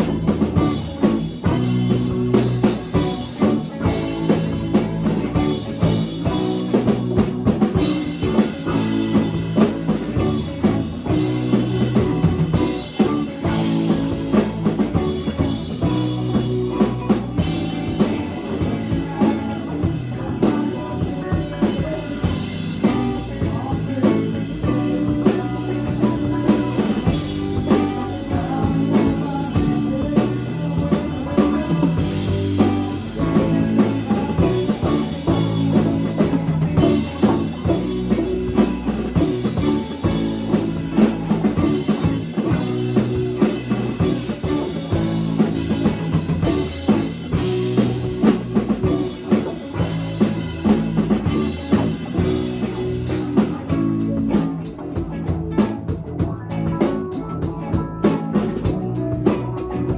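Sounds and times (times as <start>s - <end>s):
drum kit: 0.0s - 59.9s
live band playing: 0.0s - 59.9s.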